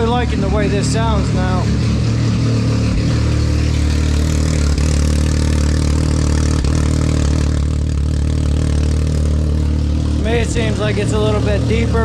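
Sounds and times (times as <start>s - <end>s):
engine idling deeply: 0.0s - 12.0s.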